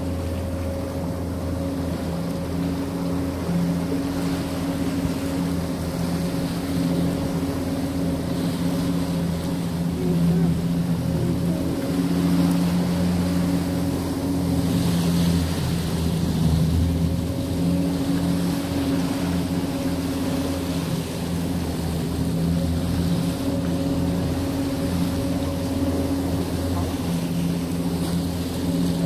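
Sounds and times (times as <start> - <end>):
boat engine running: 0.0 - 29.0
wind: 0.0 - 29.0.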